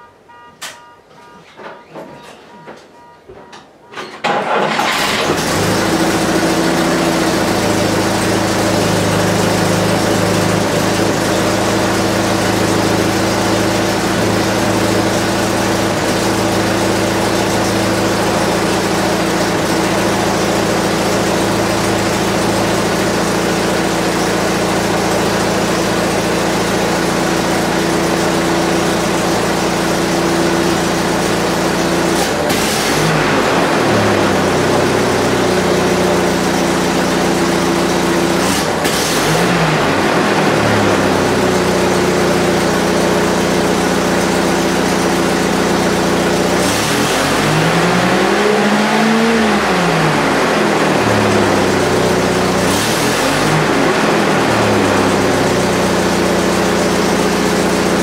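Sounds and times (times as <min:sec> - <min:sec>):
jeep engine running: 0:04.4 - 0:58.0.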